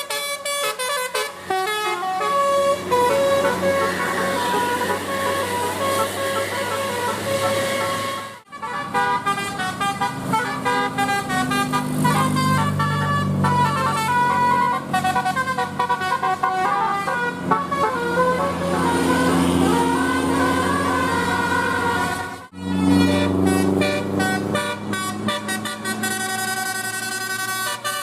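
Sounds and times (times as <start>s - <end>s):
musical bus horn: 0.0s - 28.0s.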